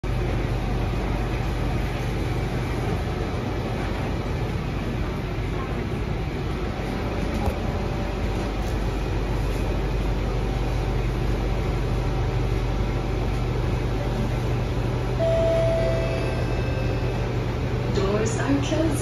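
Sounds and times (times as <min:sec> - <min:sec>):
train car hum and rumble: 0:00.0 - 0:19.0.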